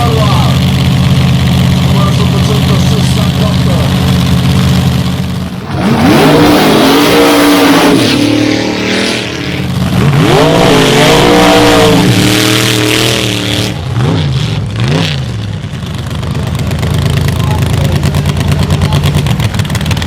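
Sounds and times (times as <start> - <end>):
drag racing car engine accelerating: 0.0 - 20.0
low engine drone: 0.0 - 20.0.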